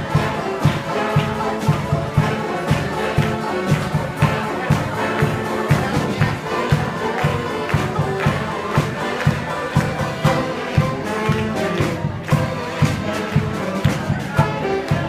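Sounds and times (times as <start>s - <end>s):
bass drum beat: 0.0s - 15.0s
string band playing a march: 0.0s - 15.0s.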